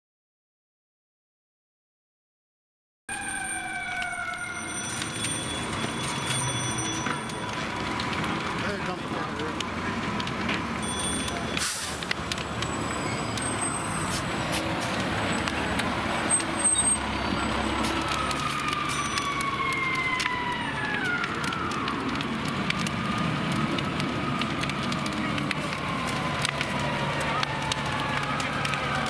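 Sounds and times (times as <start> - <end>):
fire engine siren wailing: 3.1 - 29.0
sharp crackles: 3.1 - 29.0
low engine rumble: 5.3 - 29.0.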